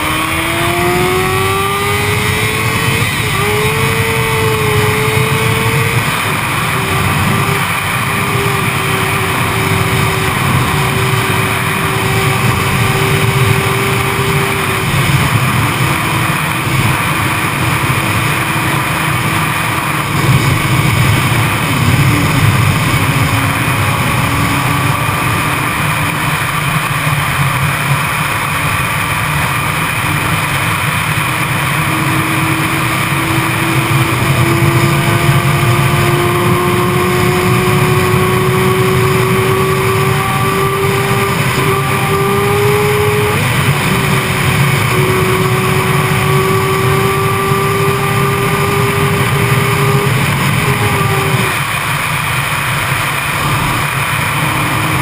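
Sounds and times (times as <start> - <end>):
motorcycle engine accelerating: 0.0 - 55.0
wind noise on microphone: 0.0 - 55.0.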